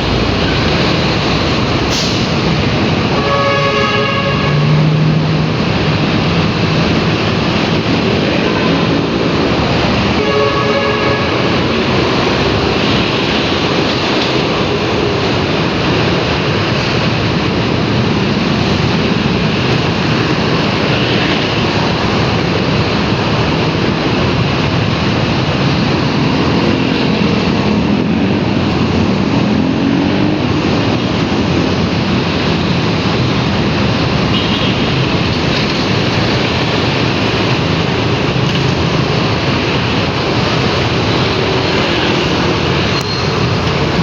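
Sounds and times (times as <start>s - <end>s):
wind and road noise: 0.0s - 44.0s.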